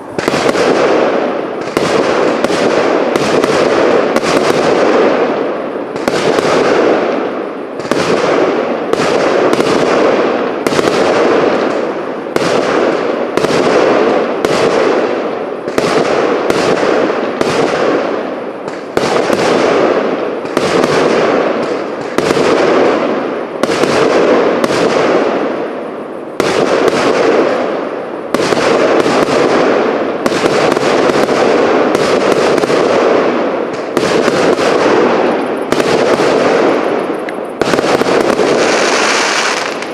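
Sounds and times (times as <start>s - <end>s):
fireworks firing: 0.0s - 39.9s.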